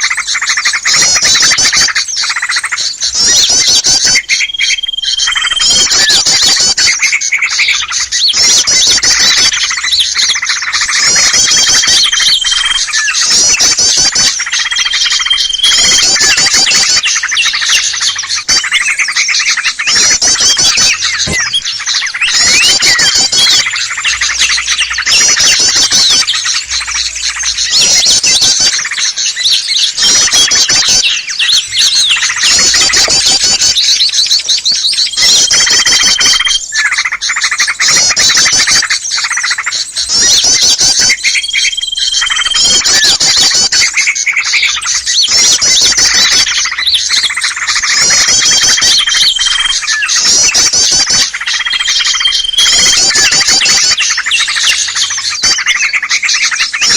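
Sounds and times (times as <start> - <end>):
small songbirds chirping: 0.0 - 56.9
steady whistle: 3.0 - 56.9.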